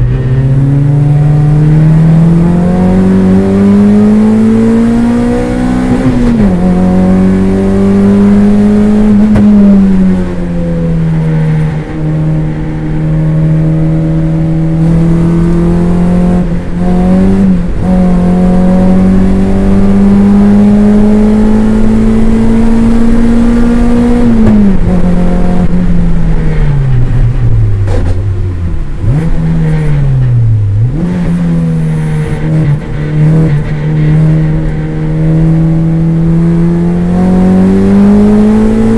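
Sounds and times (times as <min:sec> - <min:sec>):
race car engine under hard driving: 0:00.0 - 0:38.9.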